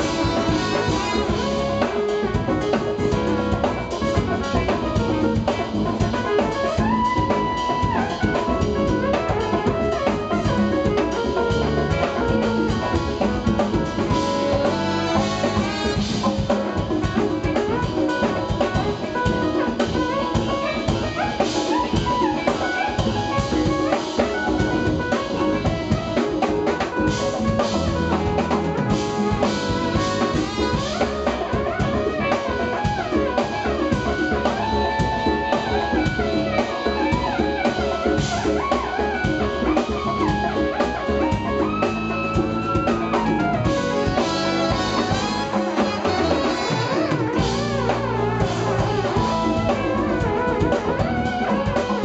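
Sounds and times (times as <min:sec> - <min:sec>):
drum kit: 0:00.0 - 0:52.0
electric bass: 0:00.0 - 0:52.0
keyboards: 0:00.0 - 0:52.0
saxophone: 0:00.0 - 0:52.0
trumpet: 0:00.0 - 0:52.0.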